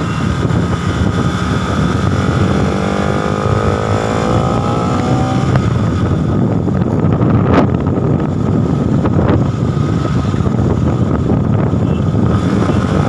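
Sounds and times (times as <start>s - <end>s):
motorcycle engine: 0.0s - 13.0s
wind noise on microphone: 0.0s - 13.0s.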